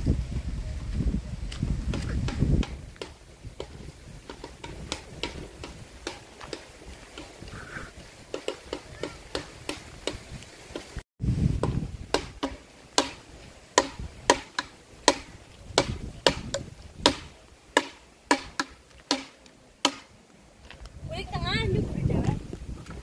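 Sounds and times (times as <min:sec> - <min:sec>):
footsteps on dirt path: 0:00.0 - 0:23.0.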